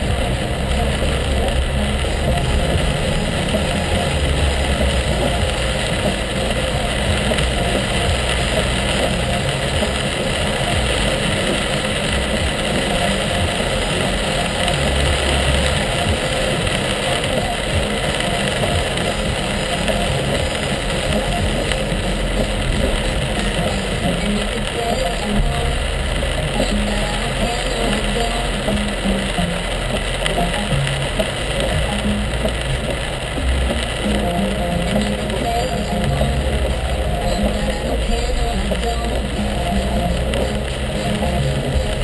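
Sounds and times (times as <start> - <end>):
car engine: 0.0 - 42.0
deep rumble: 0.0 - 42.0
rain beating on car roof: 0.0 - 42.0
tyres hissing on wet road: 0.0 - 42.0.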